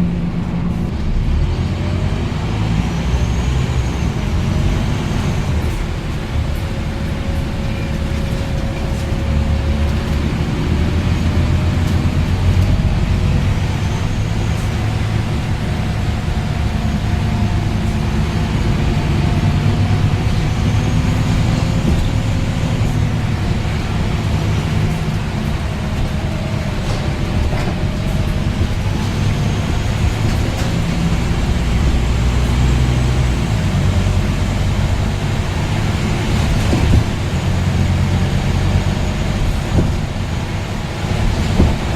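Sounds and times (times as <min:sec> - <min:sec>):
bus diesel engine drone: 0:00.0 - 0:41.9.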